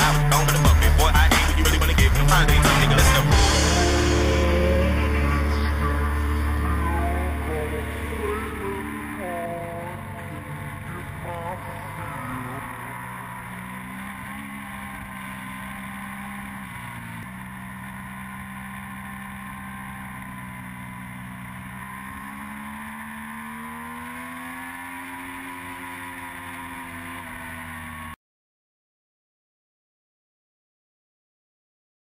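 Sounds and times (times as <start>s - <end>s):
motorcycle engine running: 0.0s - 28.2s.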